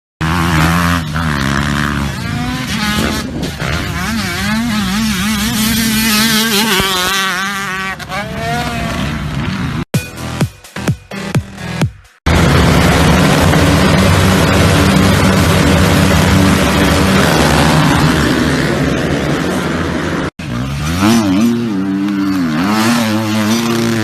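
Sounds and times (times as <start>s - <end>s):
dirt bike engines revving: 0.2s - 9.9s, 11.6s - 24.0s.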